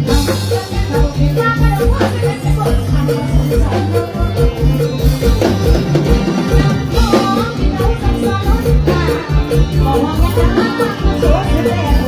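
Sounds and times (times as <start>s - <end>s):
live band music with kick drum: 0.0s - 12.0s
woman singing: 0.0s - 12.0s.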